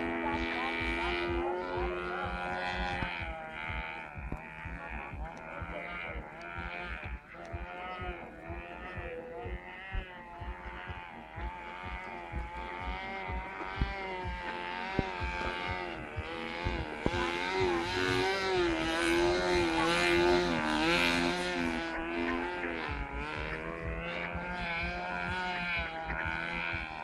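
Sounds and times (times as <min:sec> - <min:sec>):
model airplane motor buzzing: 0:00.0 - 0:27.0.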